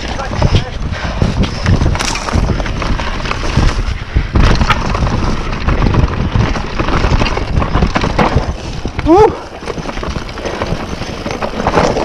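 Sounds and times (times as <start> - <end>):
bike rattling over bumps: 0.0 - 12.0
bike tyres rolling over dirt: 0.0 - 12.0
wind buffeting microphone: 0.0 - 12.0.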